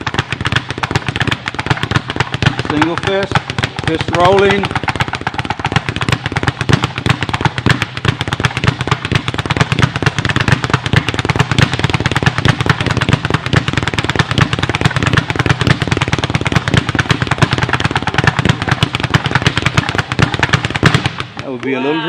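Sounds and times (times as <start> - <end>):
speed bag being punched: 0.0 - 21.8.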